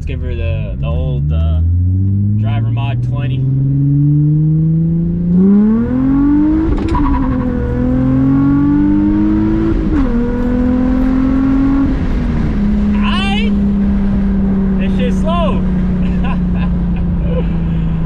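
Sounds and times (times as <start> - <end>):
car engine accelerating hard: 0.3 - 18.0.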